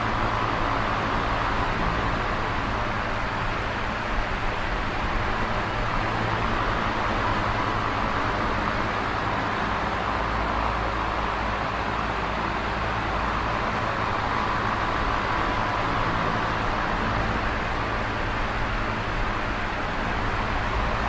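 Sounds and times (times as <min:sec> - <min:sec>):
electric fan running: 0:00.0 - 0:21.0.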